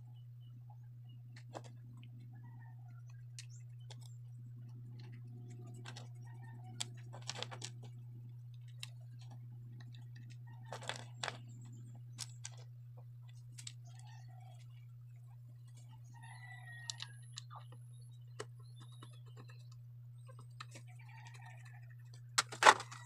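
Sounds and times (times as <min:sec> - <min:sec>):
faint low hum: 0:00.0 - 0:23.0
fan motor parts clicking: 0:01.3 - 0:23.0.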